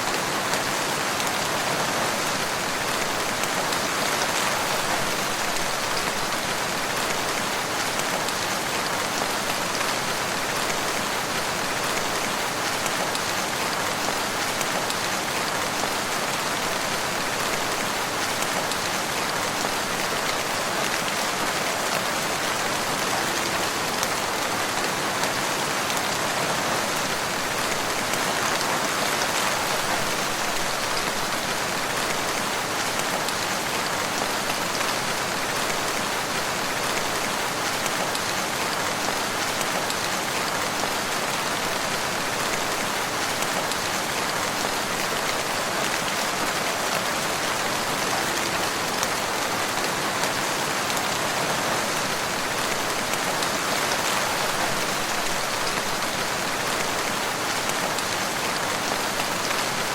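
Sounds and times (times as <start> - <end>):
rain falling in forest: 0.0 - 59.9.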